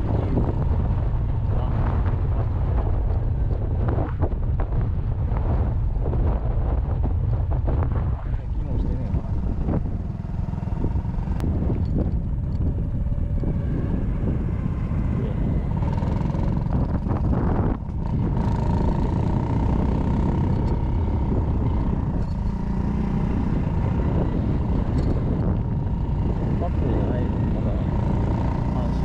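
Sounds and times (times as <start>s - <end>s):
motorcycle engine running: 0.0s - 29.0s
wind rumble on microphone: 0.0s - 29.0s.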